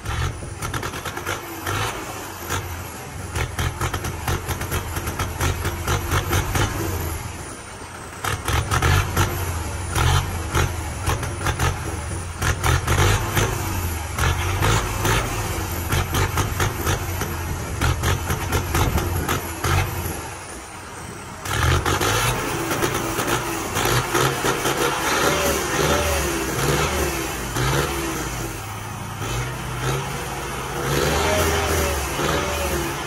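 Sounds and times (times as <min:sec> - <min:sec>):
tractor diesel engine revving: 0:00.0 - 0:33.0.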